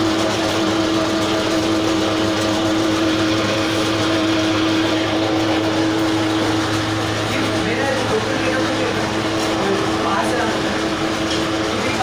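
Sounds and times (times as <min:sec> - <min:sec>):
motor-driven machine humming: 0:00.0 - 0:12.0.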